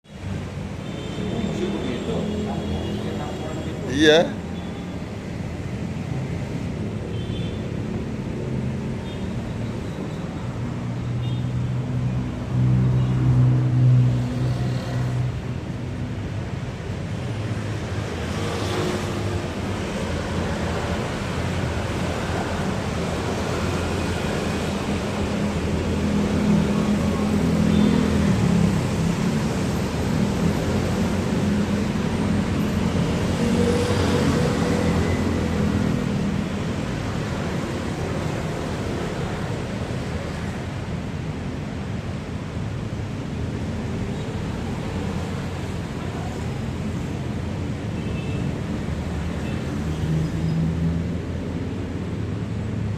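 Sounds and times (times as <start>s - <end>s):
outdoor traffic noise: 0.0s - 52.9s.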